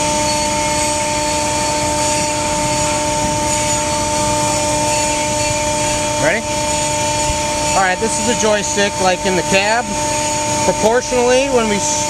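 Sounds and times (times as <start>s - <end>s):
hydraulic power unit droning: 0.0s - 12.0s
steady mechanical whine: 0.0s - 12.0s.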